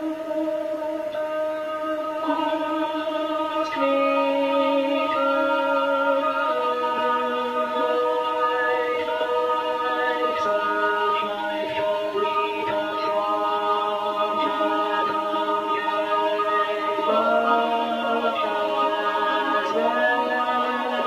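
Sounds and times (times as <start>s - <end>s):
voices singing held chords: 0.0s - 21.0s.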